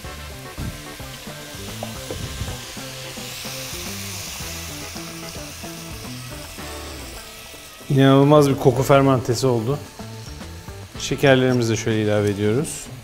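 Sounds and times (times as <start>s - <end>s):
soft background music: 0.0s - 13.0s
vegetables sizzling in oil: 0.0s - 13.0s
juice pouring into pot: 0.3s - 11.4s.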